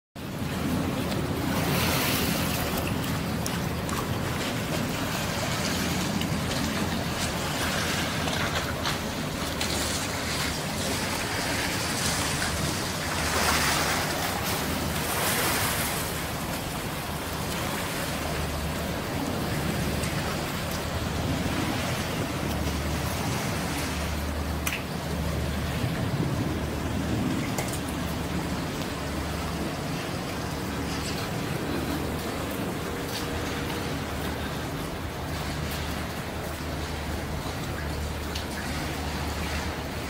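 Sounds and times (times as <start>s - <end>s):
choppy river water: 0.2s - 40.0s
low steady hum: 0.2s - 40.0s
wind gusts: 0.2s - 40.0s.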